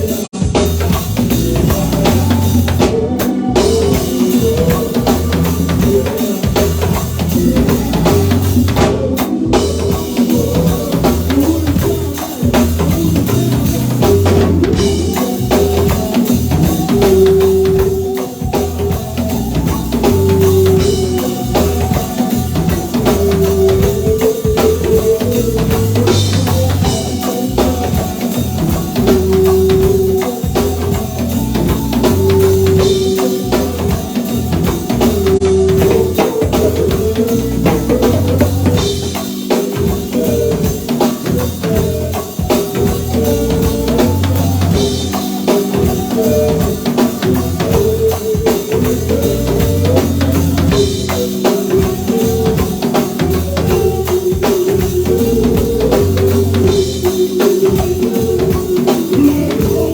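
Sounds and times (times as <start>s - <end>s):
bass notes: 0.0s - 39.2s, 42.8s - 45.2s, 45.8s - 48.2s, 48.8s - 51.2s, 51.8s - 54.1s, 54.8s - 57.1s
drum kit beat: 0.0s - 59.9s
melody of held notes: 0.9s - 59.9s.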